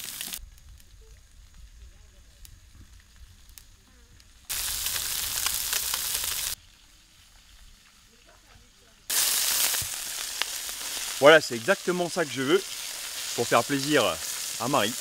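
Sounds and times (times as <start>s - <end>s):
fish sizzling in hot oil: 0.0s - 1.4s, 2.2s - 15.0s.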